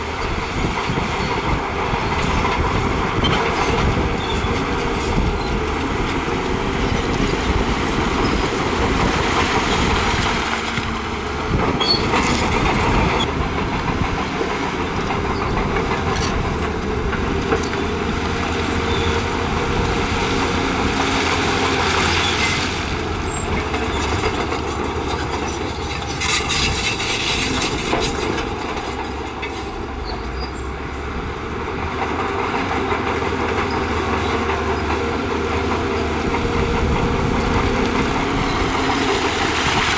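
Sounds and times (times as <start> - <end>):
diesel engine under load: 0.0 - 39.9
steel tracks clanking: 0.0 - 39.9.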